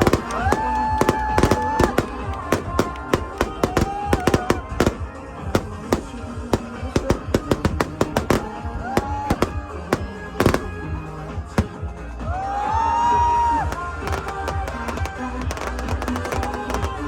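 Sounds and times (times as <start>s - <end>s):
fireworks bangs and crackles: 0.0s - 12.4s, 13.5s - 17.0s.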